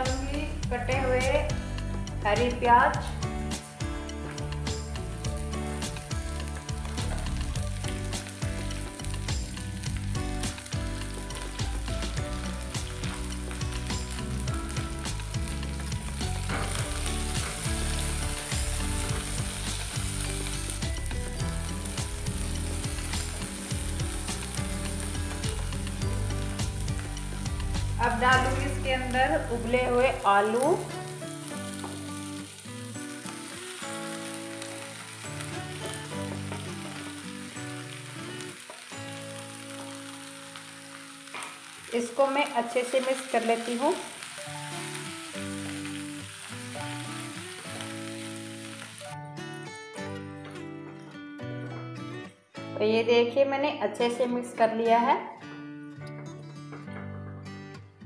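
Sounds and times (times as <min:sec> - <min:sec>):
background music of held notes: 0:00.0 - 0:42.1, 0:43.7 - 0:53.2
vegetables sizzling in hot oil: 0:00.0 - 0:49.2.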